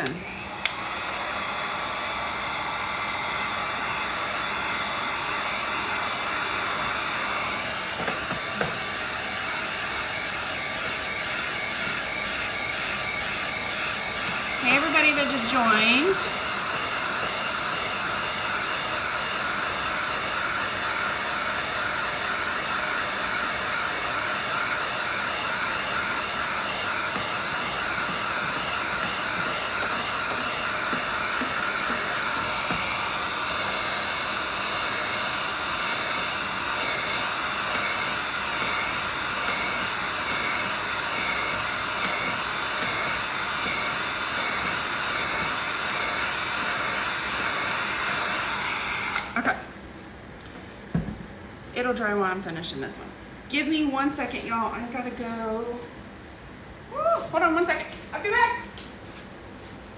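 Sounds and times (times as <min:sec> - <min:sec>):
rush of hot air: 0:00.0 - 0:49.4
heat gun fan whine: 0:00.0 - 0:59.9.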